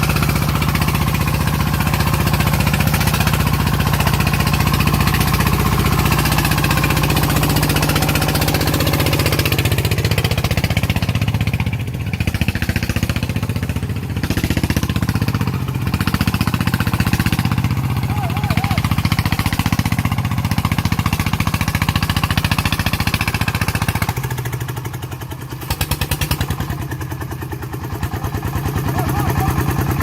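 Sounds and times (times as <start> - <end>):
diesel engine knocking: 0.0 - 30.0.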